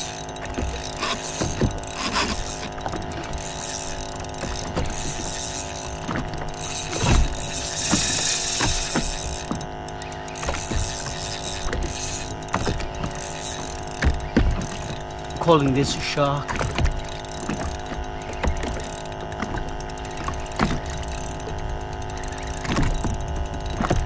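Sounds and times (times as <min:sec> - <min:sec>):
fishing reel ratcheting clicks: 0:00.0 - 0:24.0.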